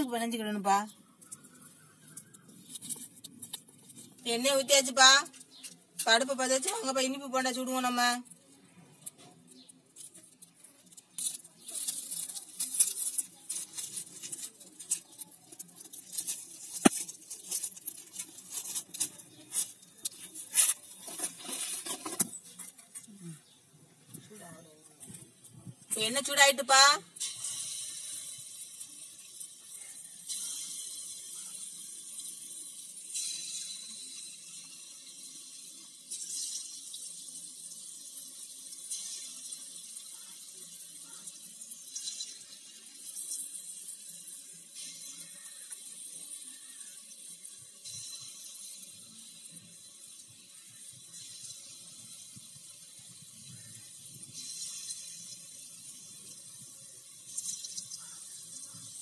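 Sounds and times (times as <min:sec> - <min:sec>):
hot oil sizzling: 0:00.0 - 0:59.0.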